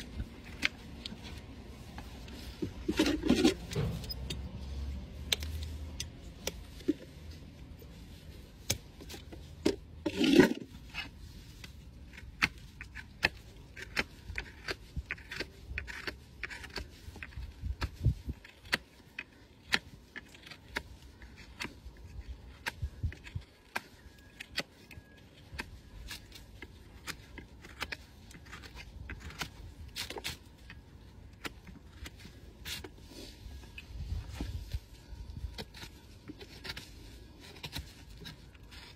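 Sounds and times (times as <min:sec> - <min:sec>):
hoof knife scraping hoof: 0:00.0 - 0:38.9.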